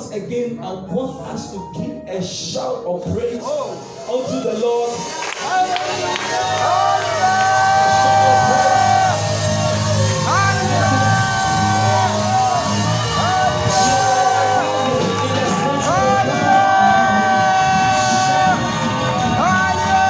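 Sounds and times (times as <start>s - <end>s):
worship singing: 1.8s - 20.0s
steady bass: 3.1s - 20.0s
congregation shouting: 3.5s - 20.0s.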